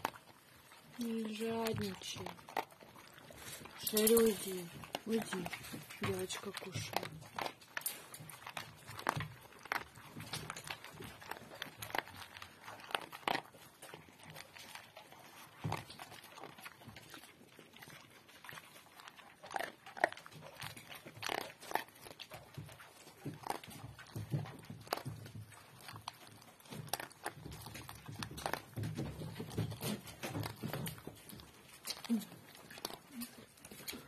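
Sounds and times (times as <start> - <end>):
dog eating from a bowl: 0.0 - 34.0.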